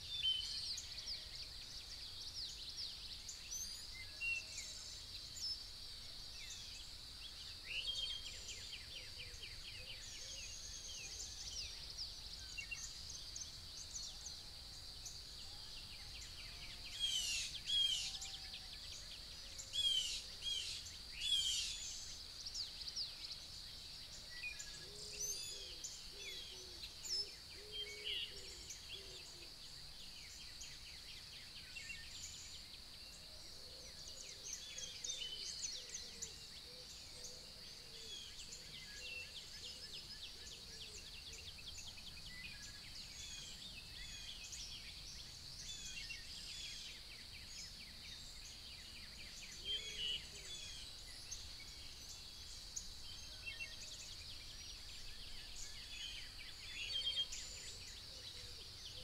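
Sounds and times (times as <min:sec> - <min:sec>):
wild birds singing and calling: 0:00.0 - 0:59.0.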